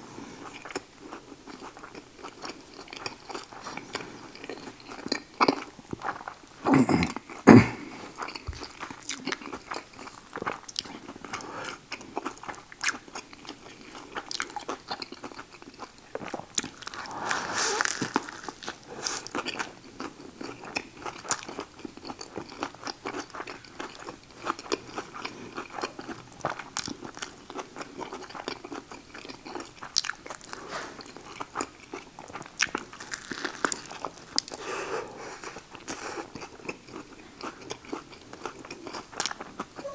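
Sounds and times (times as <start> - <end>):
chewing and crunching: 0.3 - 39.9.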